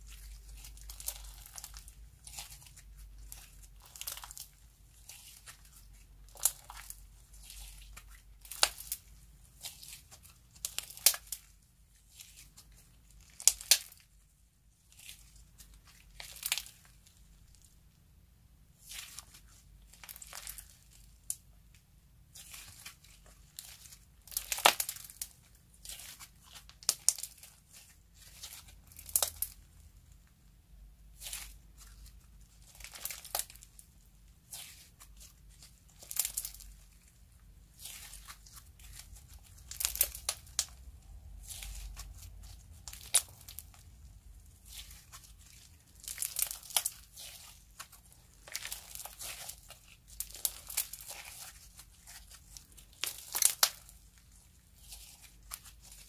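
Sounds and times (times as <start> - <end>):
slime crackling and popping: 0.0 - 14.2, 14.8 - 17.7, 18.8 - 21.4, 22.3 - 29.8, 31.1 - 56.0.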